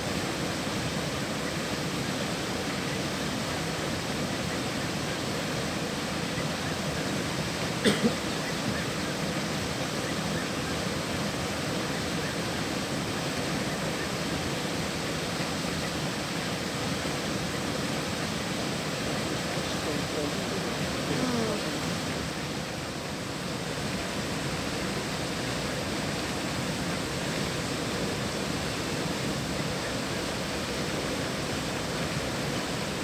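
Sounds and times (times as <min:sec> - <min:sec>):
flowing river water: 0:00.0 - 0:33.0.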